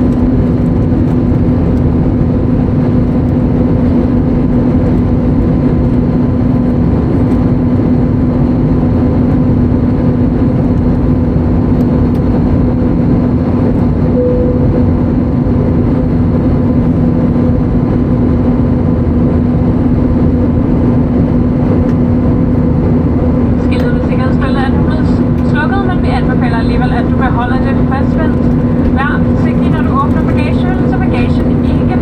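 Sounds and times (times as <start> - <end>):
airplane cabin engine drone: 0.0 - 32.0.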